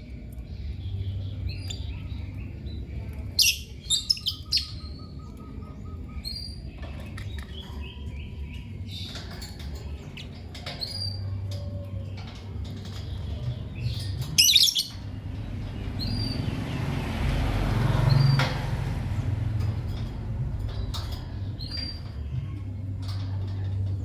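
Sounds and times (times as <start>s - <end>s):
lovebirds chirping: 0.0s - 24.0s.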